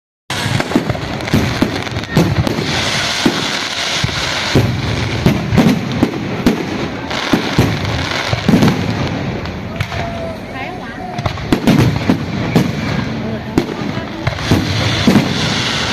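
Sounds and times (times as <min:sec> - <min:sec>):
fireworks bangs and thuds: 0:00.3 - 0:15.9.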